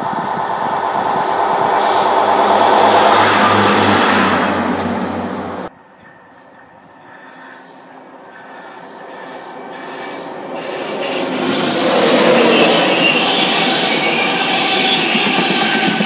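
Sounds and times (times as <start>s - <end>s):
train passing at speed: 0.0s - 16.0s
wheels on rail: 0.0s - 16.0s.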